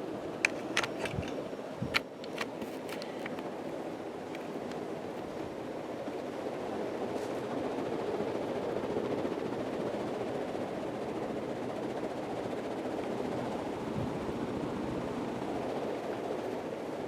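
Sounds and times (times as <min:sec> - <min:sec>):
ceiling fan air rush: 0:00.0 - 0:17.0.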